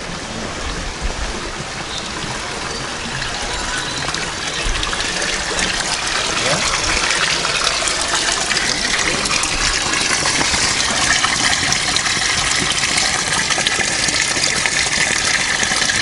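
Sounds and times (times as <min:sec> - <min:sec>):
water gushing from pipe: 0:00.0 - 0:16.0
water splashing on stones: 0:01.4 - 0:16.0.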